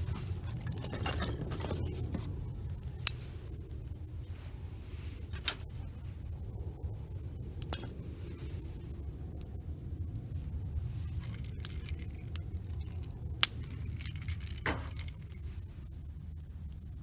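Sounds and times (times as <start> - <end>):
campfire burning: 0.0 - 17.0
fire crackling pops: 2.2 - 16.0.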